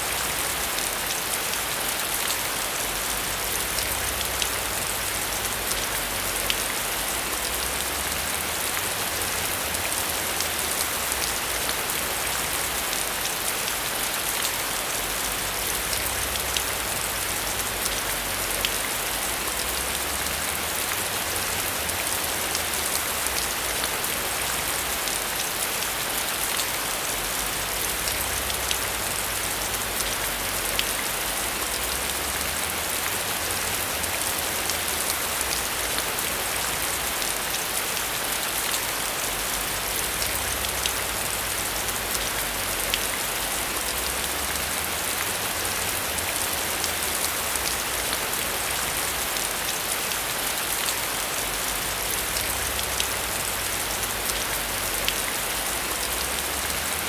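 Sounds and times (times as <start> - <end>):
heavy rain on a metal roof: 0.0 - 57.0.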